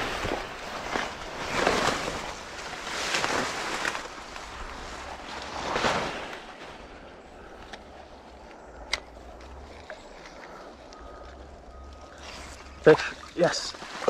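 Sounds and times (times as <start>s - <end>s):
weeds rustling against clothing: 0.0s - 14.0s.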